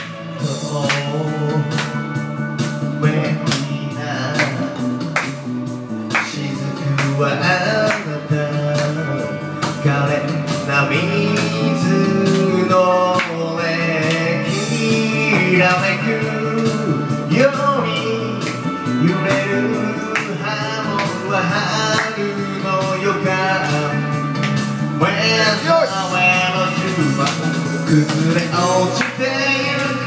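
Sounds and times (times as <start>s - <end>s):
man singing into microphone: 0.0s - 5.4s, 6.0s - 30.0s
karaoke backing track: 0.0s - 30.0s.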